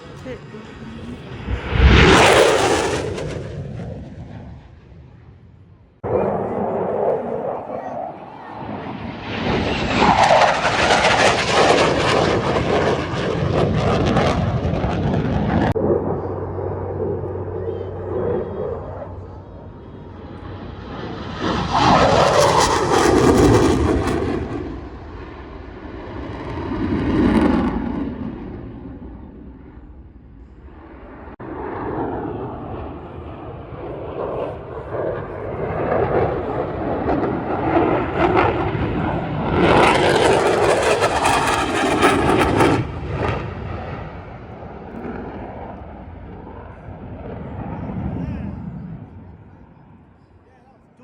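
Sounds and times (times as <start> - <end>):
fighter jet engine passing: 0.0 - 50.4.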